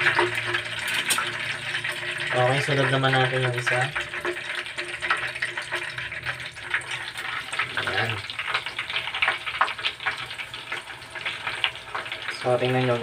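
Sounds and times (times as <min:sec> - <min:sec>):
oil bubbling and sizzling: 0:00.0 - 0:13.0.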